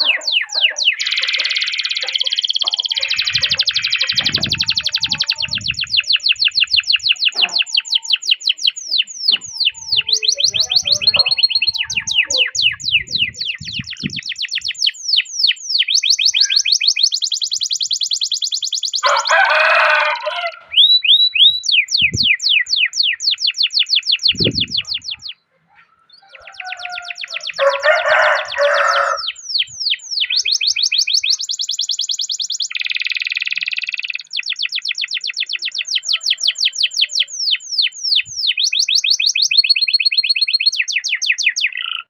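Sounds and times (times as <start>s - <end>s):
canary singing: 0.0s - 42.0s.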